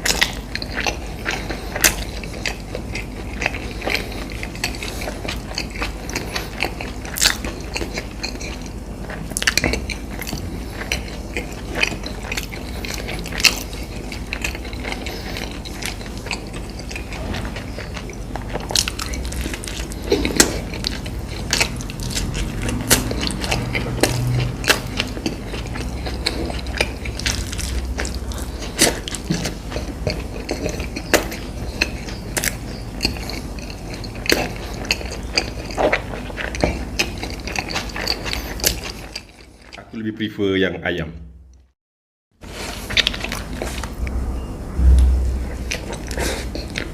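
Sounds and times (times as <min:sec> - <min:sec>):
person chewing crunchy food: 0:00.0 - 0:39.9, 0:42.4 - 0:46.9.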